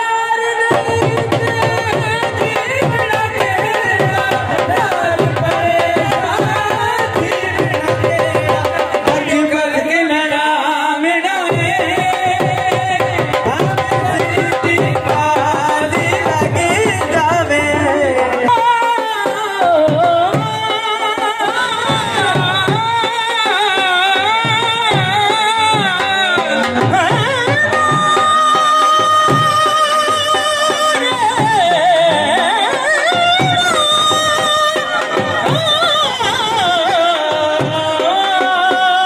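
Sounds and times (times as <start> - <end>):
men singing folk song: 0.0 - 39.0
drum beats: 0.1 - 39.0.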